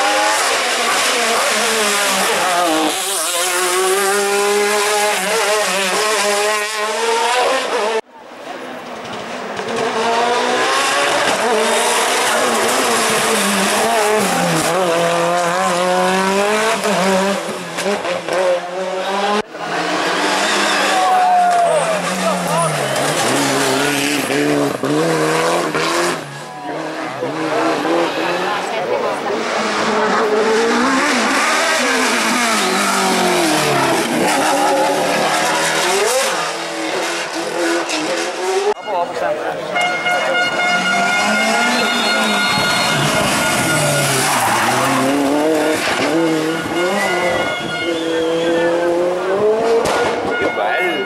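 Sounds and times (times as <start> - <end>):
race car engine revving: 0.0 - 38.8, 39.5 - 51.0.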